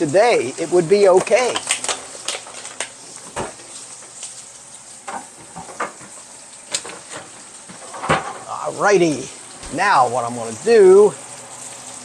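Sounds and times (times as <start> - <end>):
grease popping: 0.0 - 11.9
steak sizzling in skillet: 0.0 - 12.0.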